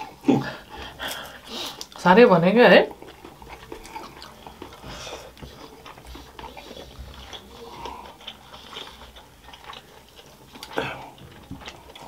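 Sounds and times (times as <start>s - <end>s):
chewing and crunching crisps: 0.0s - 12.0s.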